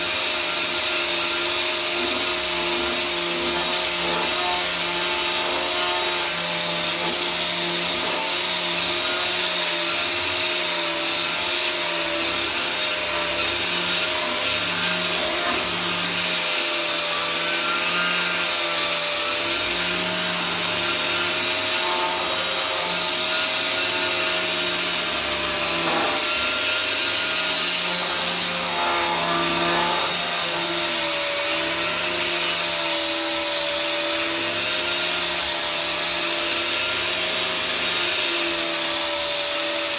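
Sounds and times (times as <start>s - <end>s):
electric sander on wood: 0.0s - 39.9s.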